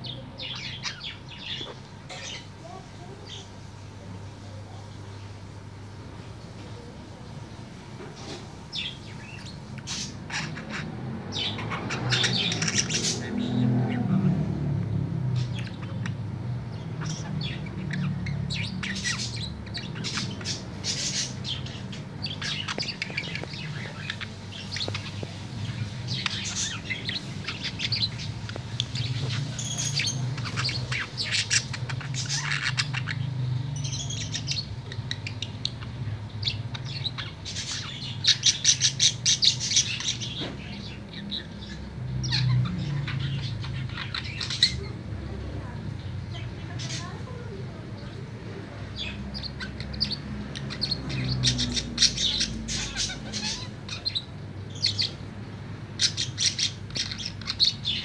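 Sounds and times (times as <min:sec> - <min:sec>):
budgerigar warbling and chirping: 0:00.0 - 0:02.6, 0:08.7 - 0:14.4, 0:15.2 - 0:48.2, 0:48.8 - 0:58.0
rapid clicking bird chatter: 0:04.7 - 0:14.1, 0:14.8 - 0:58.0.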